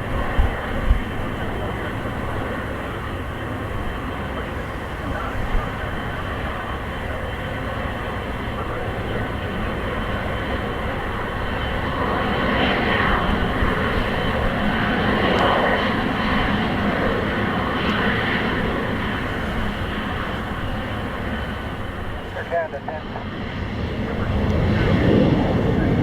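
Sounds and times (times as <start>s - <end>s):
airliner engines passing: 0.0s - 26.0s.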